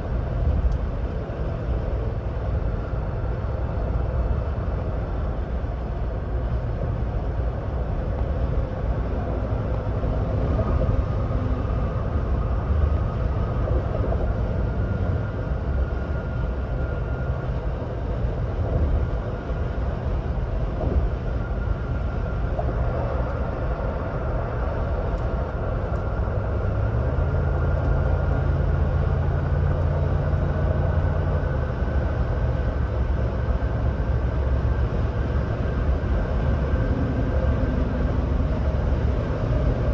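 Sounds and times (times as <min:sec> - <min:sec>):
low engine drone: 0:00.0 - 0:39.9
low hum: 0:00.0 - 0:39.9
road and tyre noise: 0:00.0 - 0:39.9.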